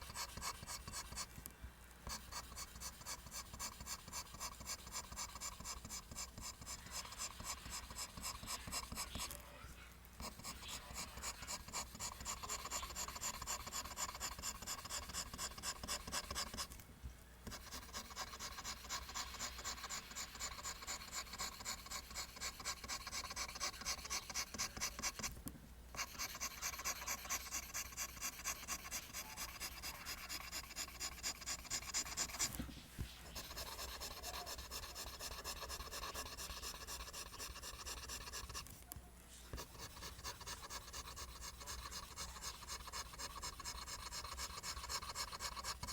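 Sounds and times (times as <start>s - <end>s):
pencil scratching on paper: 0.0s - 1.4s, 2.0s - 9.4s, 10.2s - 16.8s, 17.4s - 38.7s, 39.5s - 45.9s.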